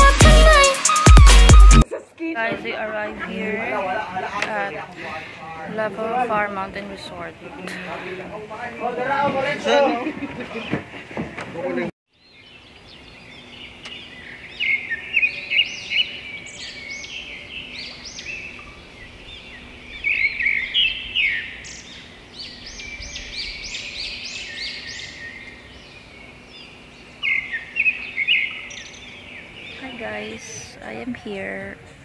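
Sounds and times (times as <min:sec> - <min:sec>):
birds chirping: 0:03.2 - 0:32.0.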